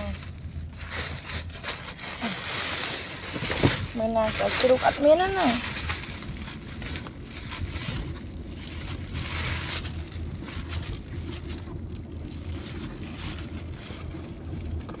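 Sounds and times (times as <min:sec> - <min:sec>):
car low rumble: 0:00.0 - 0:15.0
plastic bag rustling: 0:00.0 - 0:15.0.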